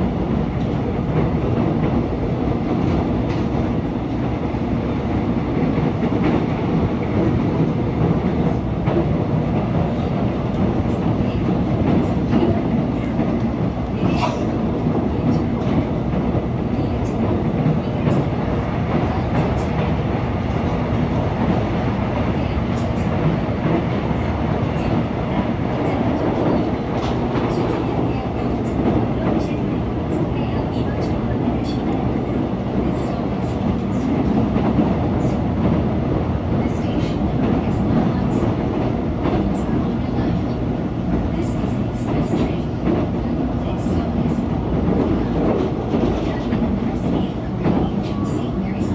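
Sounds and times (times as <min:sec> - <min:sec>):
wheels rumbling on rail: 0:00.0 - 0:48.9.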